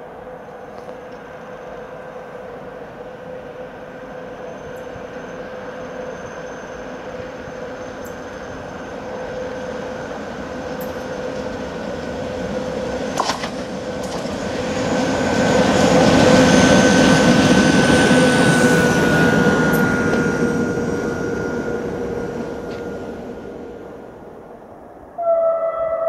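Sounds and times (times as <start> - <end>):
electric locomotive passing: 0.0 - 26.0.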